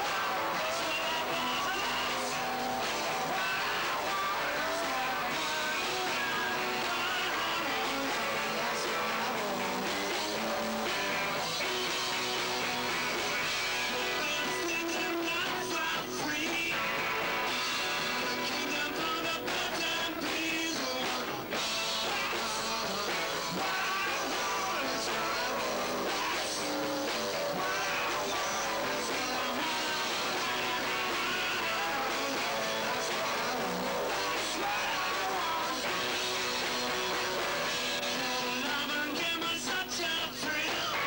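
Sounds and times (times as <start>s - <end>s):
electric guitars: 0.0s - 41.0s
man singing: 0.0s - 41.0s.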